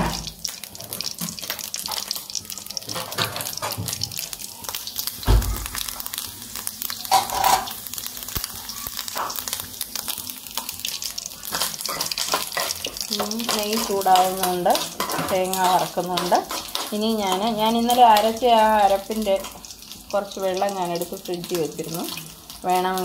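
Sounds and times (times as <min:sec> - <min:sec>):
coconut frying crackling sizzle: 0:00.0 - 0:23.0.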